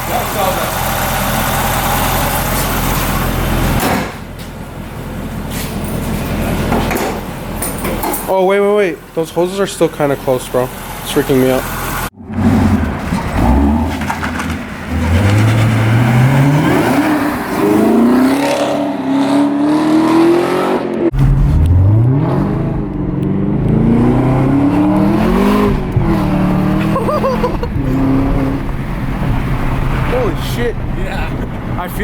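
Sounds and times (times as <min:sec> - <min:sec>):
car engine accelerating: 0:00.0 - 0:03.8, 0:10.0 - 0:32.0.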